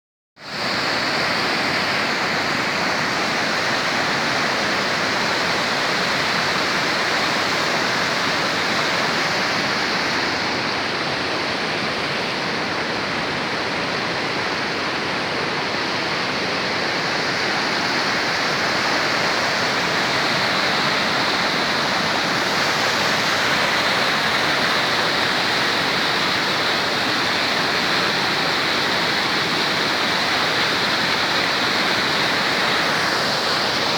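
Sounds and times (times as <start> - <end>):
rushing water: 0.4 - 33.9.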